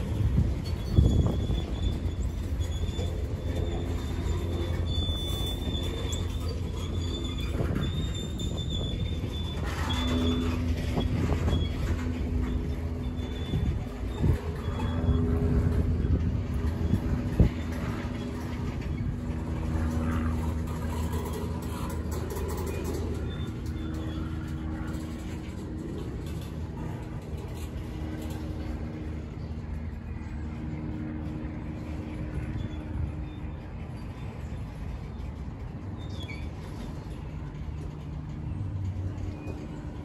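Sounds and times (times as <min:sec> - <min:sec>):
steel wheels rumbling on rails: 0:00.0 - 0:40.0.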